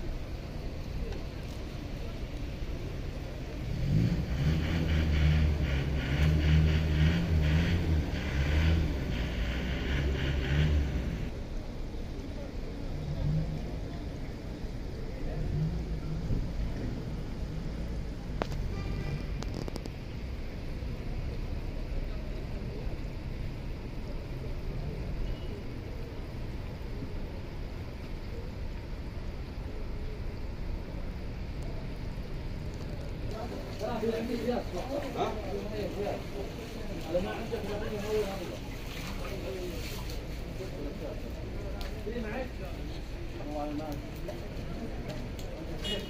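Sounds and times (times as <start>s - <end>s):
loud uneven low rumble: 0.0s - 37.7s
rain hissing: 0.0s - 45.8s
vehicle noise: 0.0s - 46.0s.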